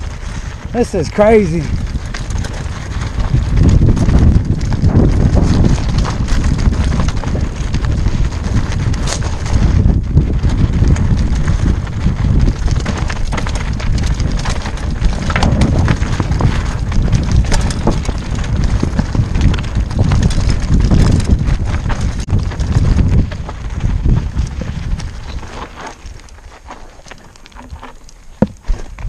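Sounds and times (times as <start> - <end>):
bike rattling over rocks: 0.0 - 29.0
bike tyres crunching over gravel: 0.0 - 29.0
wind rumbling on microphone: 0.0 - 29.0.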